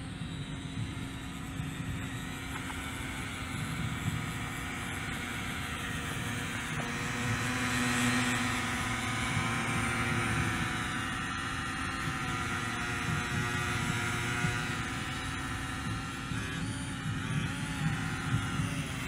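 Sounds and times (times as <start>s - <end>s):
quadcopter propellers buzzing: 0.0s - 19.0s.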